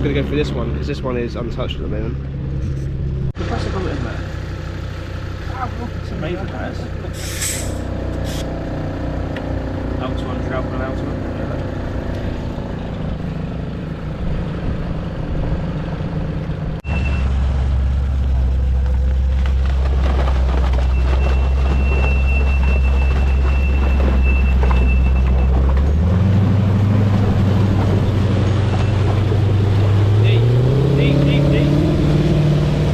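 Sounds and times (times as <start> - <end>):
engine droning under load: 0.0 - 32.9.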